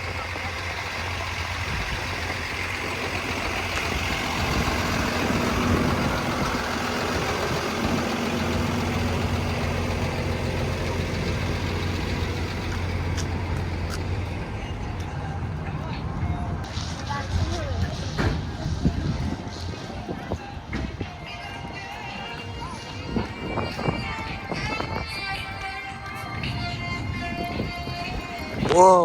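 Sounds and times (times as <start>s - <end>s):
large engine idling: 0.0s - 29.0s.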